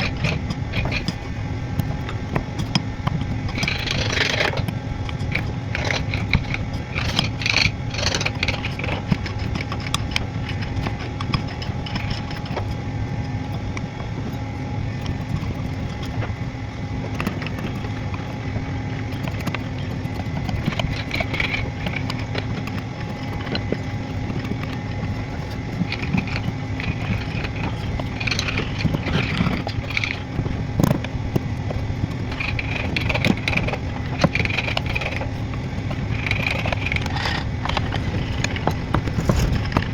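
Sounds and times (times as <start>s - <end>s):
tool scraping wood: 0.0s - 12.8s, 17.1s - 39.9s
small motor running: 0.0s - 39.9s.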